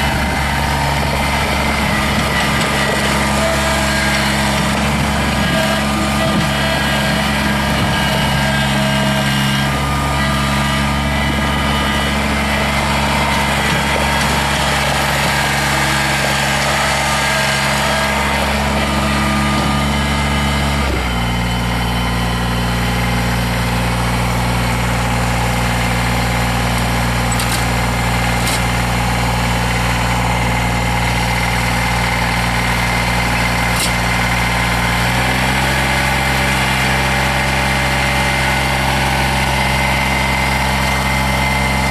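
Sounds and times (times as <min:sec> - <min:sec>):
small diesel engine running: 0:00.0 - 0:41.9.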